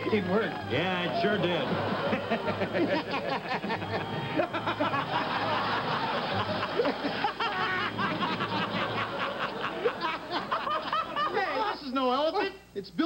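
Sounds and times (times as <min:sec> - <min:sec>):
people laughing: 0:00.0 - 0:11.9
people chattering: 0:00.0 - 0:12.4.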